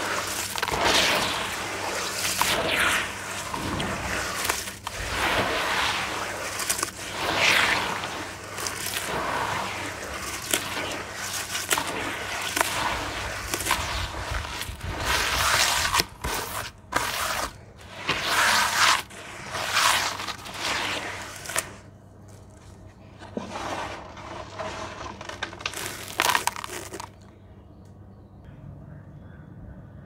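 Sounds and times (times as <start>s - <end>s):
hands squelching through wet clay: 0.0s - 27.3s.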